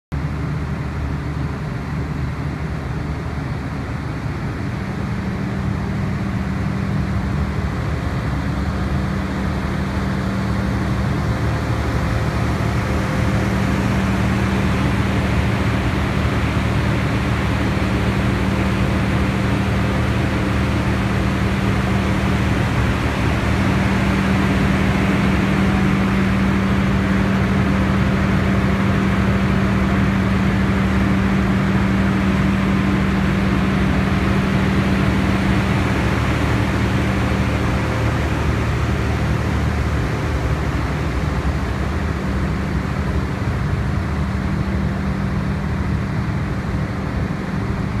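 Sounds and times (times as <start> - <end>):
diesel generator running: 0.1 - 48.0.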